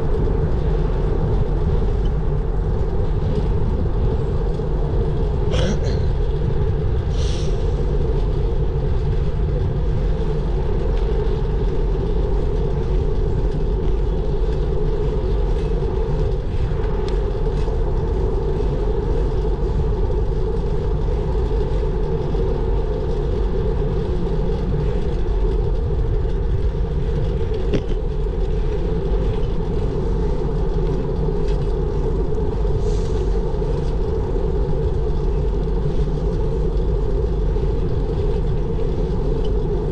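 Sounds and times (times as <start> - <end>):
bicycle wind and road noise: 0.0 - 39.9.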